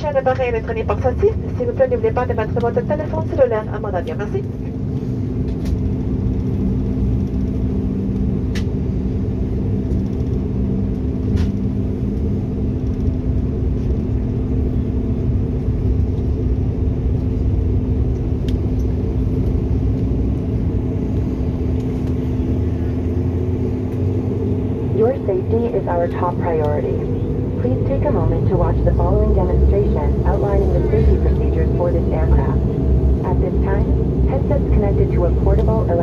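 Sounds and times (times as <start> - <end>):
airliner cabin drone: 0.0 - 36.0.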